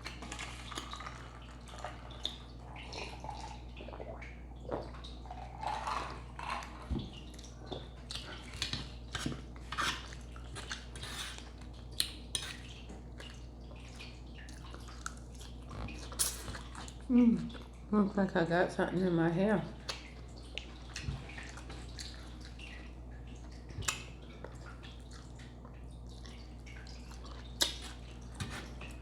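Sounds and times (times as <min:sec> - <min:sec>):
wet chewing: 0:00.0 - 0:17.9, 0:19.8 - 0:29.0.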